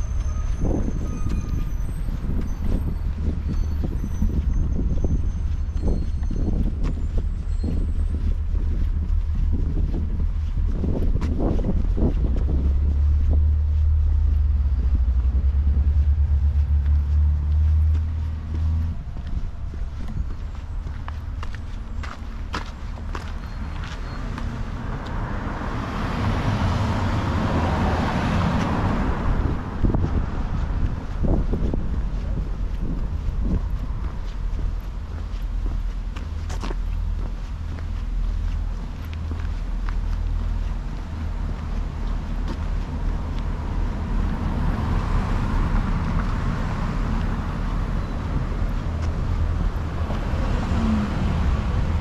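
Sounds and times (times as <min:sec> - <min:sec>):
car driving by: 0:00.0 - 0:52.0
low traffic rumble: 0:00.0 - 0:52.0.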